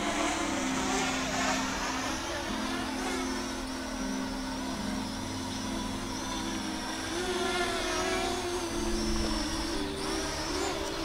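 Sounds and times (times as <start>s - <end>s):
drone propellers humming: 0.0s - 11.0s.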